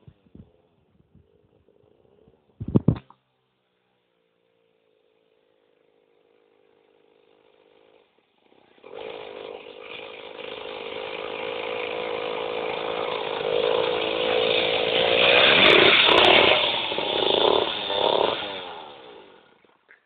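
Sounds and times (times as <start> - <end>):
go-kart engine buzzing: 0.0 - 19.9.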